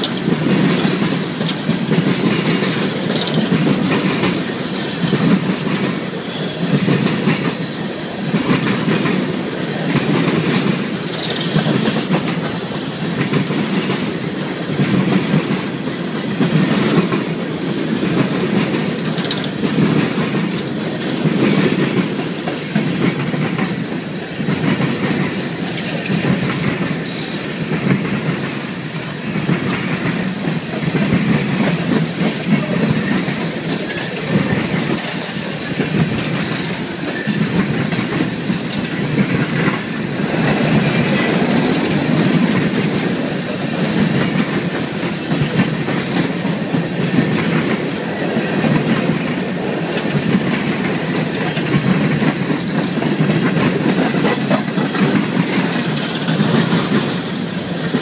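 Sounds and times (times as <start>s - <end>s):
steel wheels rumbling on rails: 0.0s - 58.0s
wheels clacking over rail joints: 0.0s - 58.0s.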